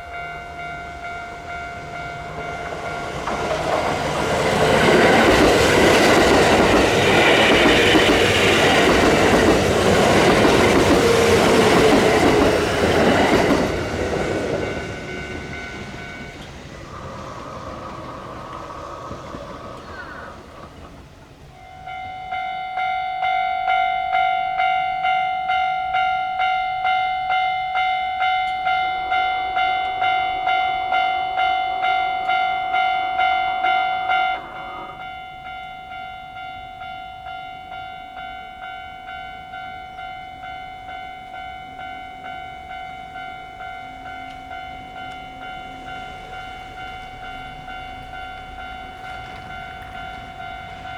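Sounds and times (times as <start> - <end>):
crossing alarm bell ringing: 0.0 - 18.6, 21.0 - 50.9
train rushing past: 0.0 - 22.4, 26.4 - 36.6, 40.5 - 50.9.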